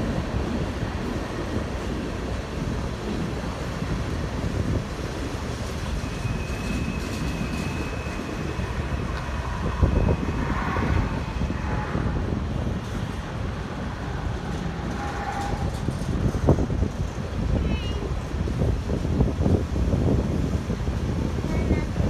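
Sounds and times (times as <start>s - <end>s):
freight wheels rumbling on track: 0.0s - 22.0s.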